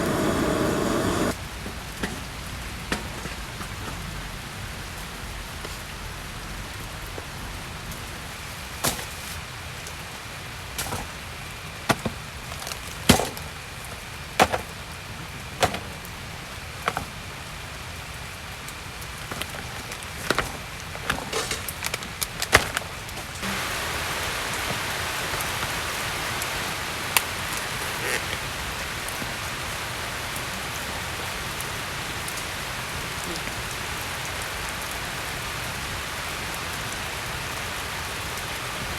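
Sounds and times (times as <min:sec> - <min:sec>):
rain falling: 0:00.0 - 0:02.8, 0:03.4 - 0:38.9.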